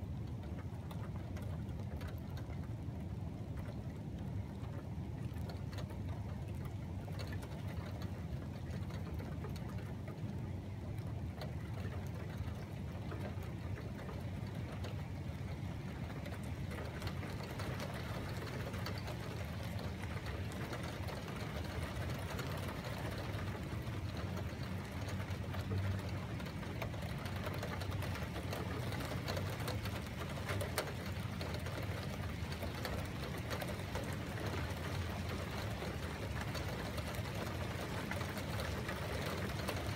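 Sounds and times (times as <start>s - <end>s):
raindrop ticks: 0.0s - 39.9s
steady rain hiss: 0.0s - 39.9s.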